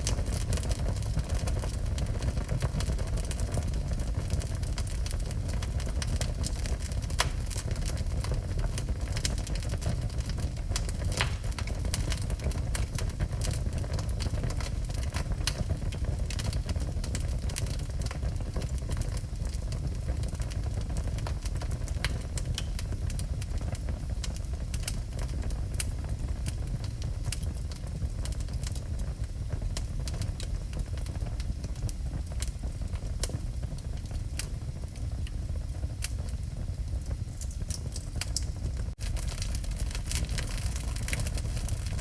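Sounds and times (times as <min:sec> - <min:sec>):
fire crackles and pops: 0:00.0 - 0:42.0
fire rumbling in fireplace: 0:00.0 - 0:42.0.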